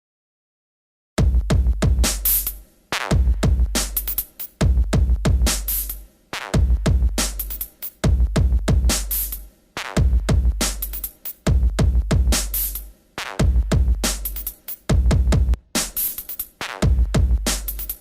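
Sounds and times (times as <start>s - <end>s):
electronic music with heavy beat: 1.2s - 18.0s.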